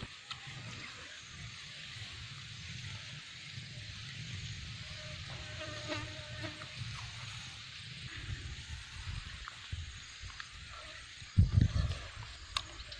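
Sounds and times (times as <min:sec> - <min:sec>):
insects buzzing: 0:00.0 - 0:12.9.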